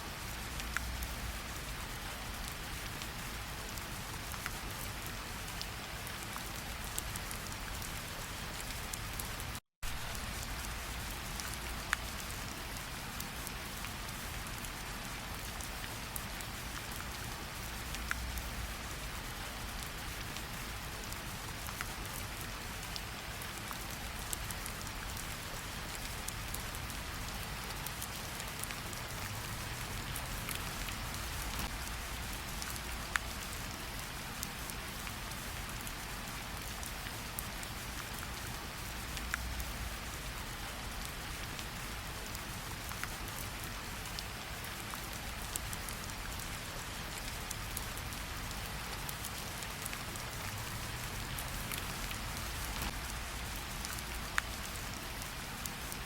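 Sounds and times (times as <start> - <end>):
rain patter: 0.0 - 56.0.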